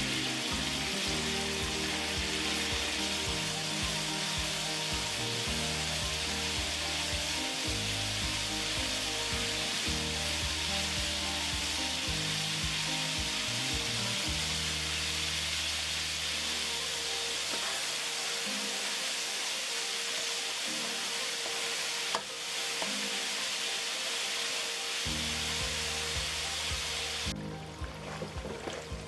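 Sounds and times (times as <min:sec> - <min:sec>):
background music: 0:00.0 - 0:29.0
chicken sizzling in hot oil: 0:00.0 - 0:29.0.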